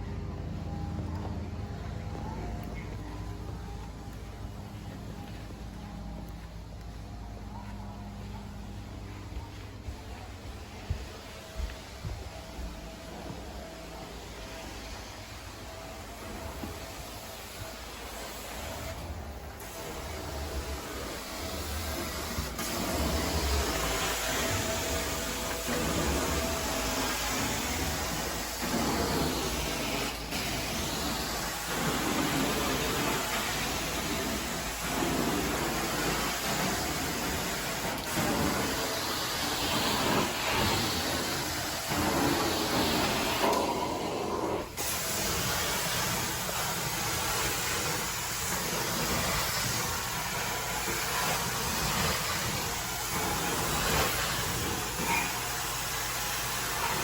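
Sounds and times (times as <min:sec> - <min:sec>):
carpet cleaner spray and suction hiss: 0:08.7 - 0:57.0.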